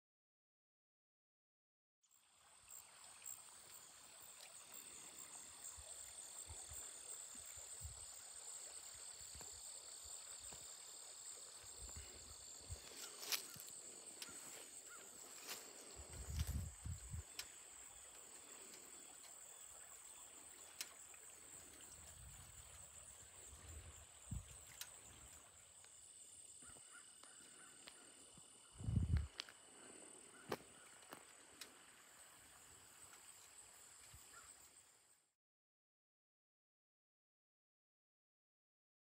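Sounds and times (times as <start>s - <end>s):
lower insect tone: 2.0s - 35.4s
high insect drone: 2.1s - 35.3s.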